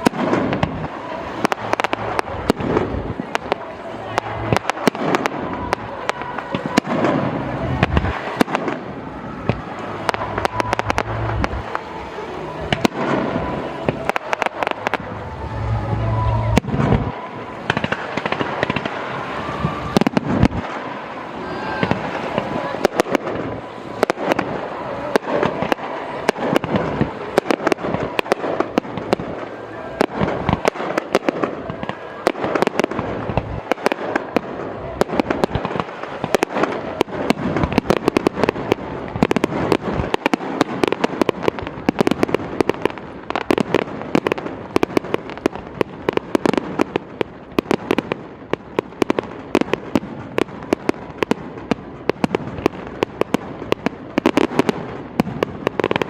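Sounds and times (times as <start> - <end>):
fireworks bangs and crackling pops: 0.0 - 56.0.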